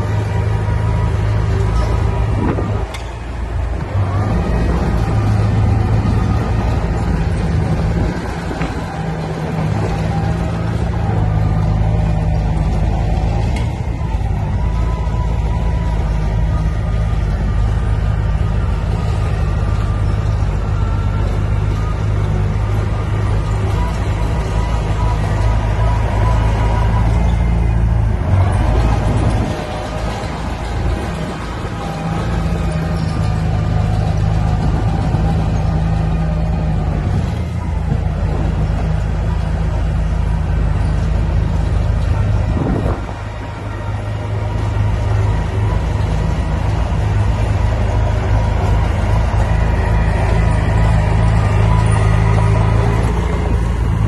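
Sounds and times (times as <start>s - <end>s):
diesel machinery engine drone: 0.0s - 54.0s.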